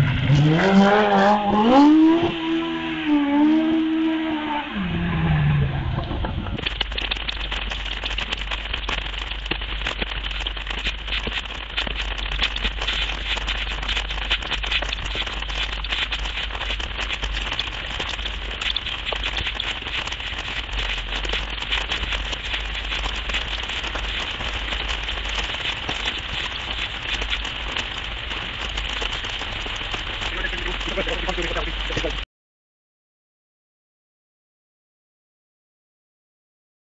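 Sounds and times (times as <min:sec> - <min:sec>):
low steady rumble: 0:00.0 - 0:32.2
rain crackling patter: 0:00.0 - 0:32.3.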